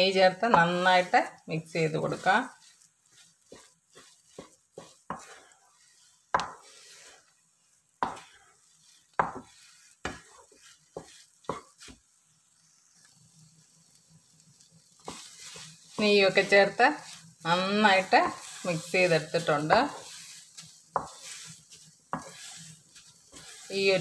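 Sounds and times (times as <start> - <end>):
wooden spatula scraping a pan: 0.0 - 24.0.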